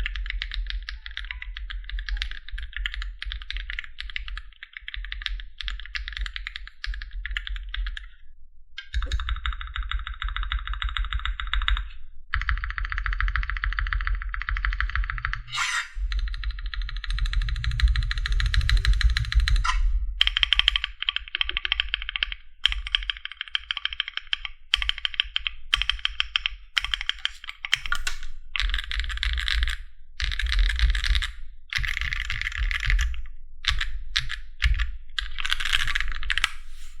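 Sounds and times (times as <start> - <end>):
fast typing on mechanical keyboard: 0.0 - 8.1, 9.0 - 15.4, 20.2 - 28.0, 28.6 - 36.5.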